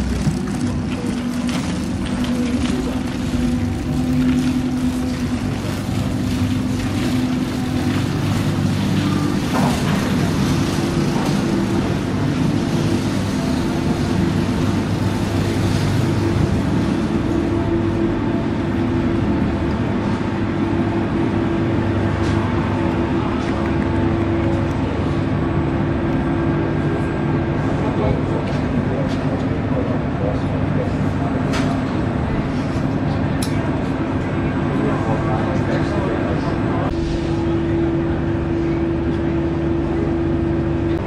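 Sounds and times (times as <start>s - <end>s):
ferry engine droning: 0.0s - 41.0s.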